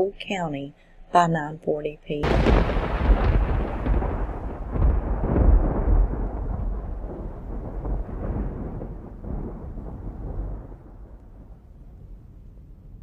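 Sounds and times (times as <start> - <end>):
deep loud rumble: 2.2 - 13.0.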